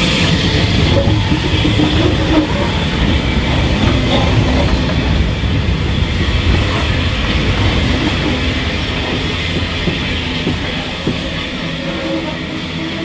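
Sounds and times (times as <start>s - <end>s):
steam train rolling past: 0.0s - 13.0s.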